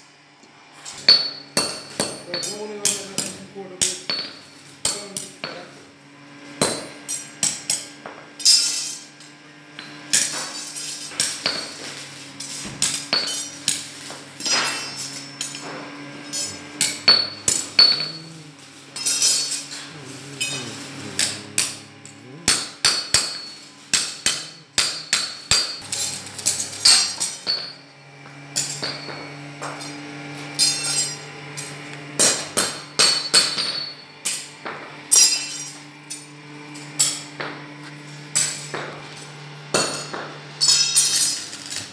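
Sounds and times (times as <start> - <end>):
hammer striking steel bars: 0.8 - 5.7, 6.6 - 9.0, 9.8 - 27.9, 28.6 - 37.6, 38.3 - 41.9.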